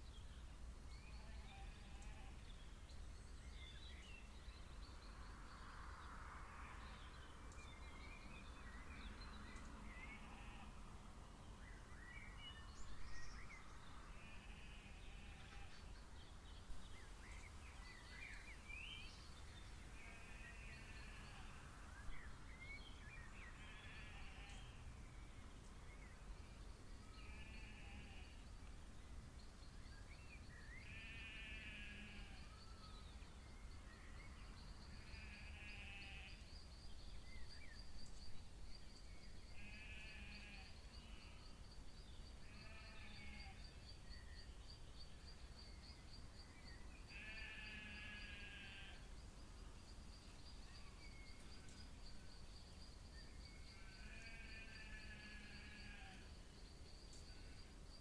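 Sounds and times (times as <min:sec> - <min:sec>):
faint background noise: 0:00.0 - 0:58.0.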